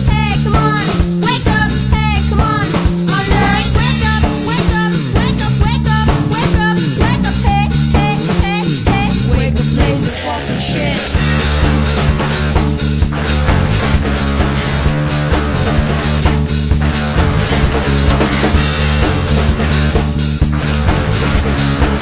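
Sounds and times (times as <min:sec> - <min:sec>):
rock music with drum kit: 0:00.0 - 0:22.0.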